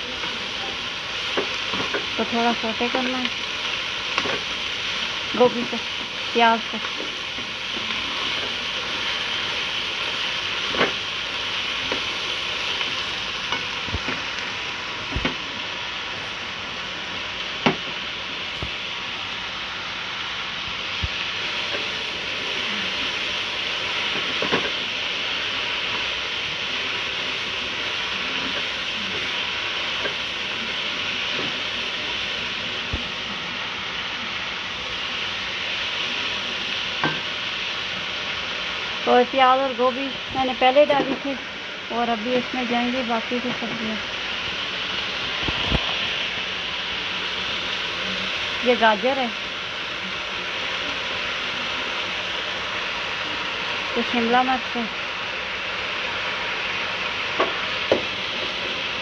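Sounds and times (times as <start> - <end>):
food sizzling in a wok: 0.0 - 59.0.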